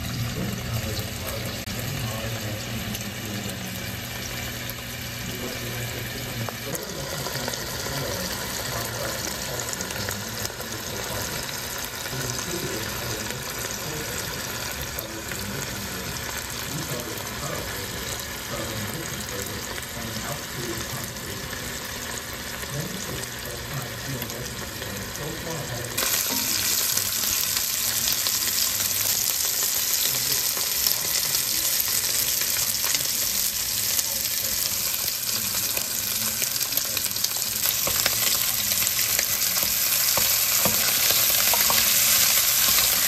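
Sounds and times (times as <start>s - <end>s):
sausage sizzling in frying pan: 0.0s - 43.0s.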